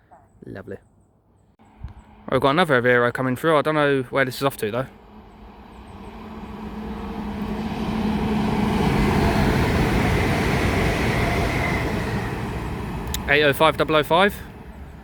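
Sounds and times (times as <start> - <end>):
train passing: 1.6 - 15.0.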